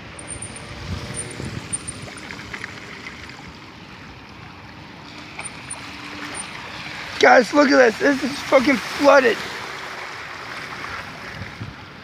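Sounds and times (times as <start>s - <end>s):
floodwater rushing and splashing: 0.0s - 12.0s.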